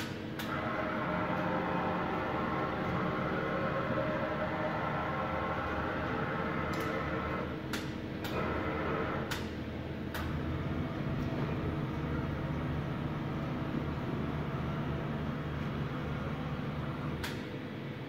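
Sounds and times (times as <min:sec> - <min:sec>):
machining centre humming: 0:00.0 - 0:18.0.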